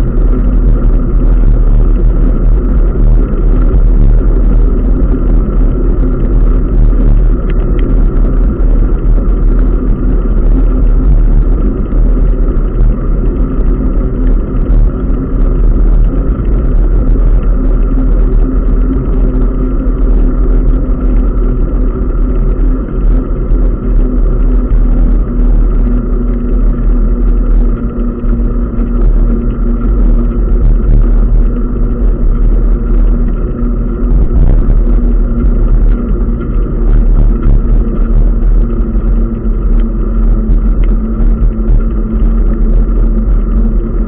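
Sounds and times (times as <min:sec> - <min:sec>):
constant low hum: 0:00.0 - 0:44.0
wind and road noise: 0:00.0 - 0:44.0.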